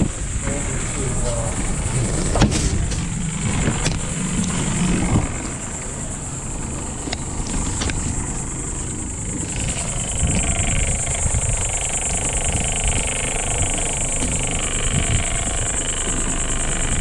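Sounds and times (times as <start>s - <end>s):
outboard motor running rough: 0.0s - 17.0s
water noise: 0.0s - 17.0s
wind noise: 0.0s - 17.0s.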